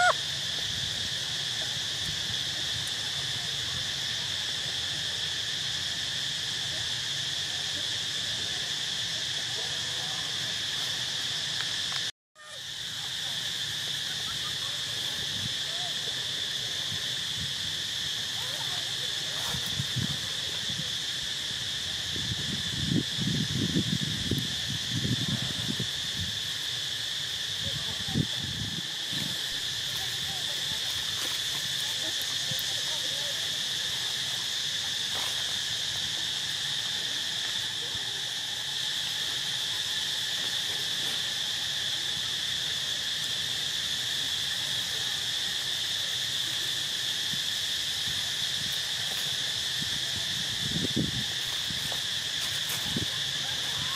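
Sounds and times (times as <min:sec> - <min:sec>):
insect chorus drone: 0:00.0 - 0:53.9.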